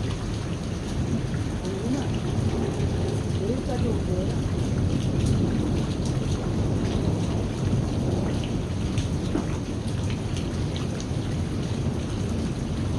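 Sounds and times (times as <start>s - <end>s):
heavy rain: 0.0s - 12.9s
raindrop ticks: 0.0s - 12.9s
thunder rumbling: 0.0s - 12.9s.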